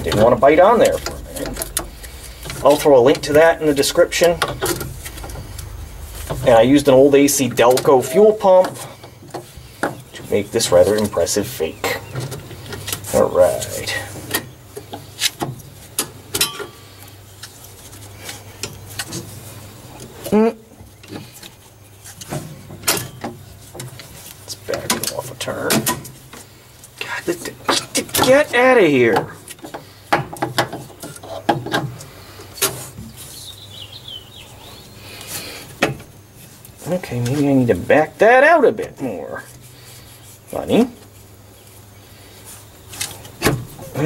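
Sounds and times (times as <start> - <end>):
steady low hum: 0.0 - 30.1, 30.9 - 44.0.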